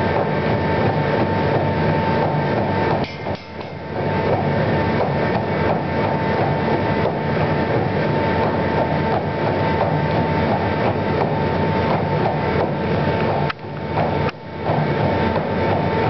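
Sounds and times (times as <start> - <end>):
treadmill machine whine: 0.0 - 16.0.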